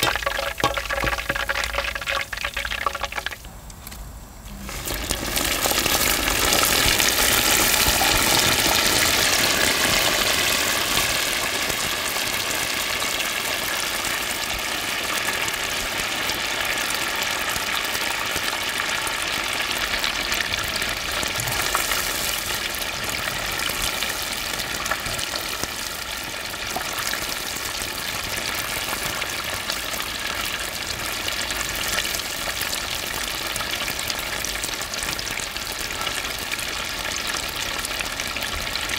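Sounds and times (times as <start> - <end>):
chicken deep-frying in hot oil: 0.0 - 3.5, 4.5 - 38.9.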